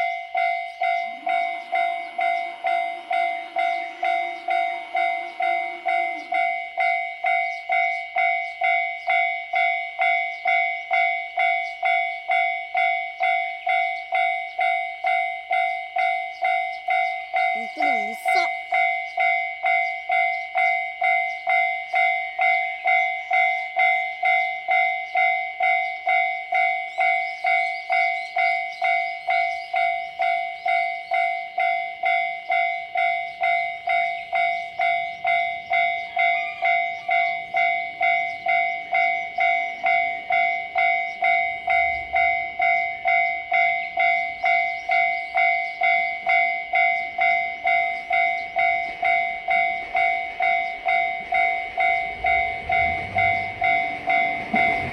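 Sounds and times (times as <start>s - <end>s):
level crossing bell ringing: 0.0s - 54.9s.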